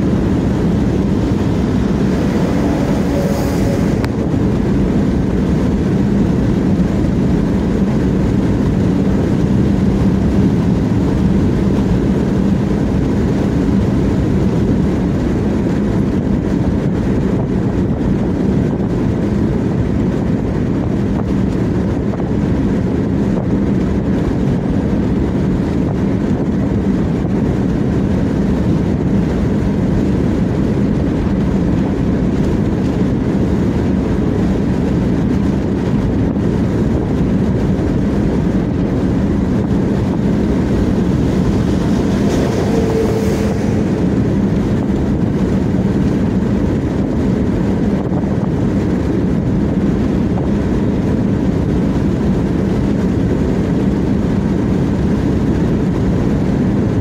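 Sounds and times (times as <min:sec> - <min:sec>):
car road noise from inside cabin: 0:00.0 - 0:57.0.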